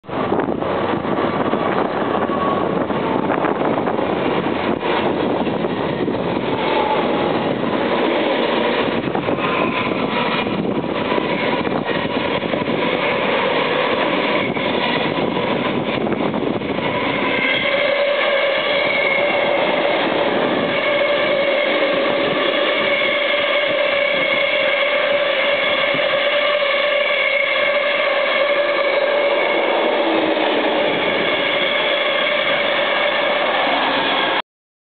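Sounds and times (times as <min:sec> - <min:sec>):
electric train passing at speed: 0:00.0 - 0:34.4
steady whine: 0:00.0 - 0:34.4
freight train wagons rolling past: 0:00.1 - 0:34.4.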